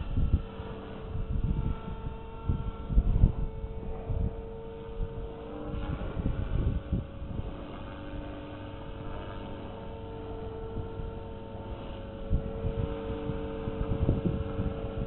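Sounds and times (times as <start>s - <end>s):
helicopter motor and rotor whine: 0.0s - 15.0s
wind rumbling on microphone: 0.0s - 15.0s.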